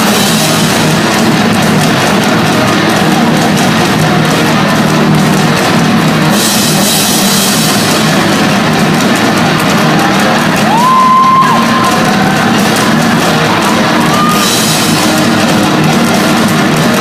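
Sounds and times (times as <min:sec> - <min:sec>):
heavy metal band playing: 0:00.0 - 0:17.0.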